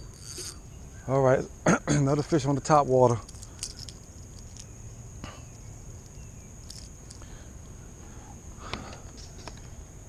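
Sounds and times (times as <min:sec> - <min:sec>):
steady high-pitched whine: 0:00.0 - 0:10.0.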